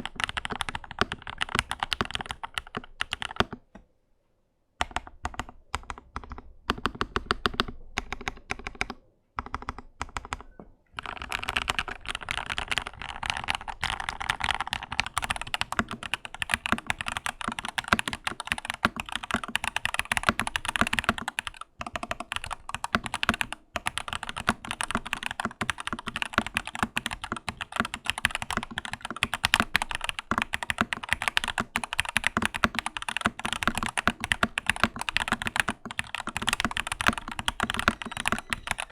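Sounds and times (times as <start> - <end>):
mechanical keyboard typing: 0.0 - 3.6, 4.8 - 38.9.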